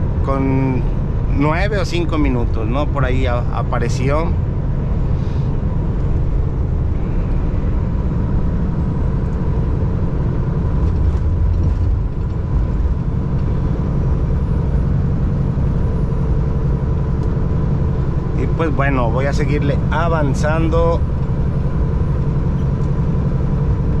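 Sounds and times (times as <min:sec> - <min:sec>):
truck engine drone: 0:00.0 - 0:24.0.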